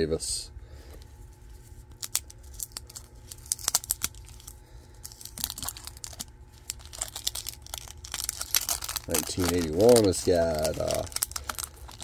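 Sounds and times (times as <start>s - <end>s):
cellophane wrapper crinkling: 1.6s - 12.0s.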